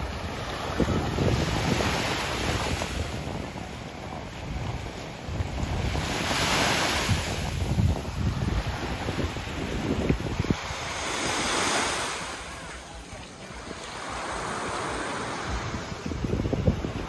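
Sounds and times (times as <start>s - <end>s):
waves washing on sand beach: 0.0s - 17.0s
wind buffeting microphone: 0.0s - 17.0s.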